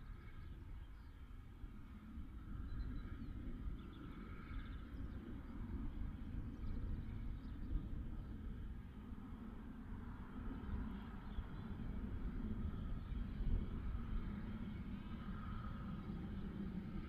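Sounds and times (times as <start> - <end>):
faint birdsong: 0.0 - 17.0
wind rumbling on microphone: 0.0 - 17.0.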